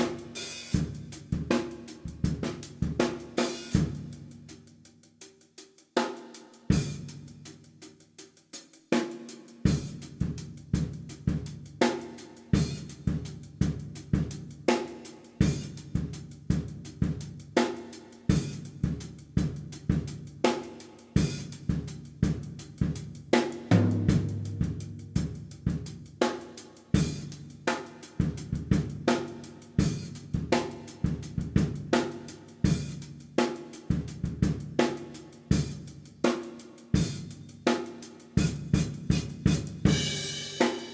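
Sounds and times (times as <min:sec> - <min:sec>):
drum kit playing a beat: 0:00.0 - 0:40.9.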